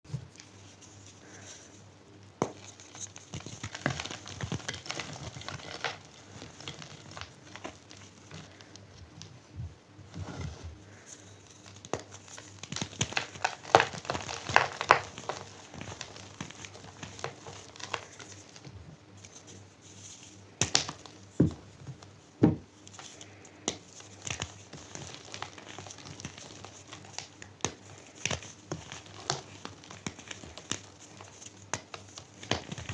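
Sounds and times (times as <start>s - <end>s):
chalk crunching and crackling: 0.3s - 9.5s, 10.1s - 32.9s
sharp chalk cracks: 2.4s - 9.3s, 11.0s - 19.5s, 20.6s - 22.1s, 22.8s - 32.9s.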